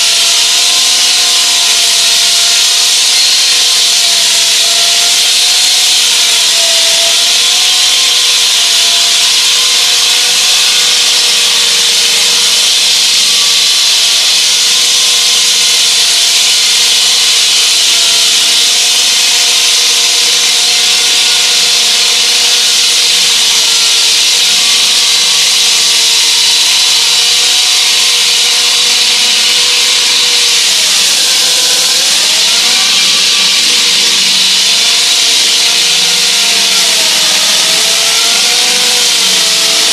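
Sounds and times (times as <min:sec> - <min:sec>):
wall saw cutting concrete: 0:00.0 - 0:39.9.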